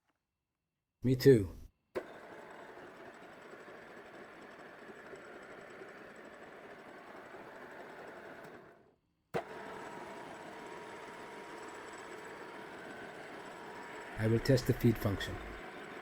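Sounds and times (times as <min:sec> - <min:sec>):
milling machine humming: 0:02.0 - 0:08.8, 0:09.4 - 0:16.0.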